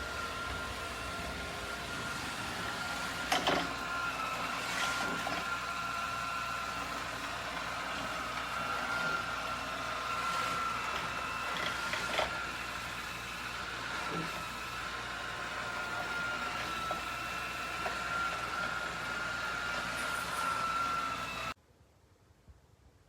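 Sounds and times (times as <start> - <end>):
robot vacuum motor whine: 0.0 - 21.6.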